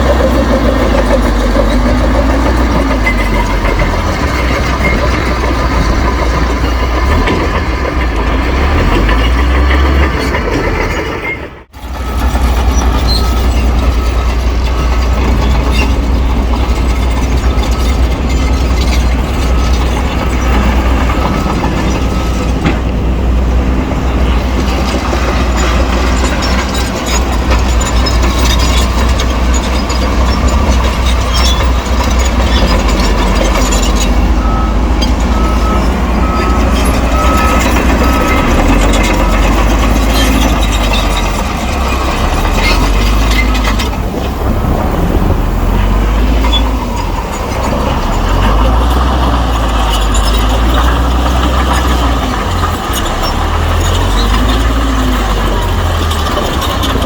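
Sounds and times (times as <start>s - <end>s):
bulldozer diesel engine running: 0.0s - 57.0s
steel tracks clattering: 0.0s - 57.0s.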